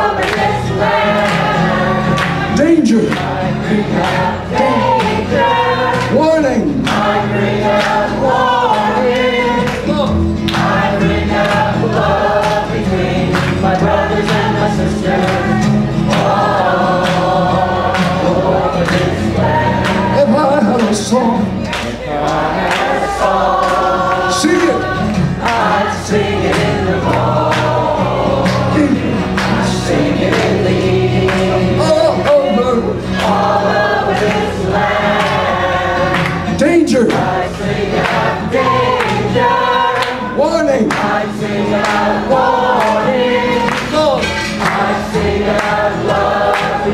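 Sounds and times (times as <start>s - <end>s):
audience singing along: 0.0s - 46.9s
folk song singing: 0.0s - 46.9s
strummed twelve-string guitar: 0.0s - 46.9s.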